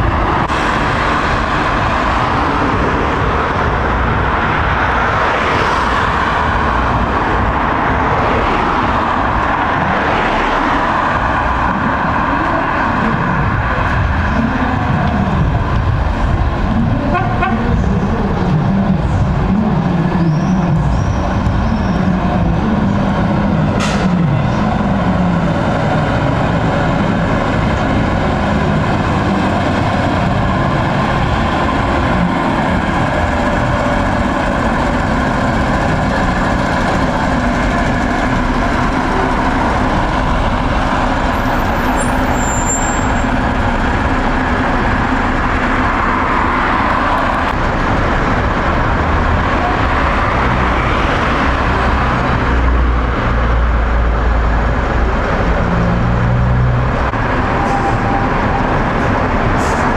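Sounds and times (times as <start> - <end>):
bus diesel engines running: 0.0 - 59.9
street traffic: 0.0 - 59.9.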